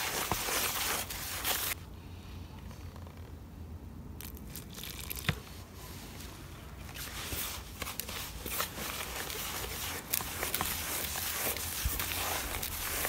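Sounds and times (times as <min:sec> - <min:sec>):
hand kneading grainy crumb: 0:00.0 - 0:01.8, 0:04.2 - 0:13.0.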